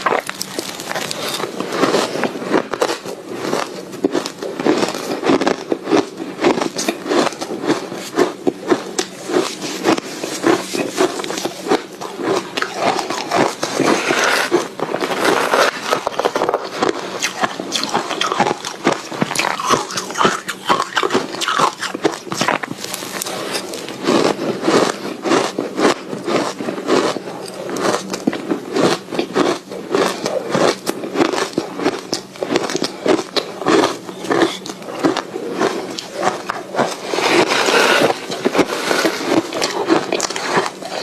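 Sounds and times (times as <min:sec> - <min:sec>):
ice being chewed: 0:00.0 - 0:41.0.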